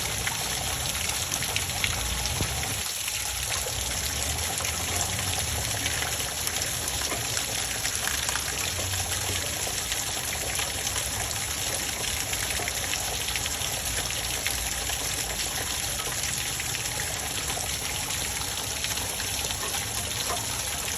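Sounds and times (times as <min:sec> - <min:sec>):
water running and splashing: 0:00.0 - 0:20.9.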